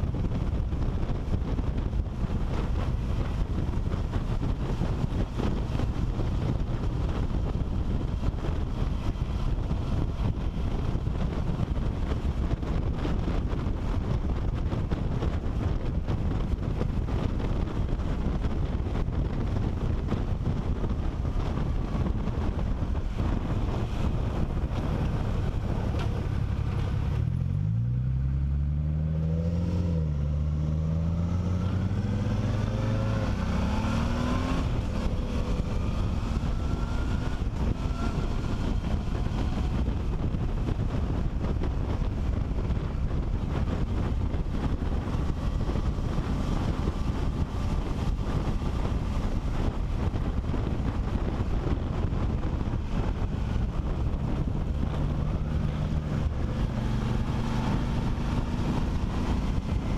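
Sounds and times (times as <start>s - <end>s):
motorcycle engine accelerating: 0.0s - 59.9s
wind rushing over camera: 0.0s - 59.9s.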